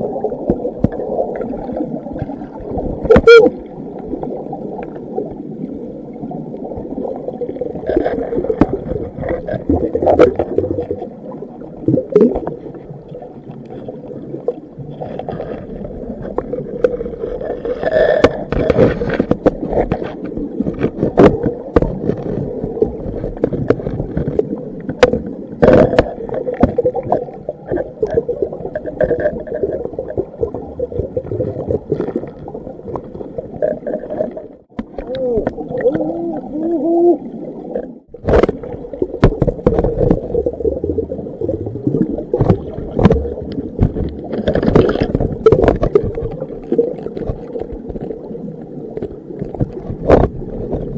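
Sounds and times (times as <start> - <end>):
muffled underwater rumble: 0.0 - 50.9.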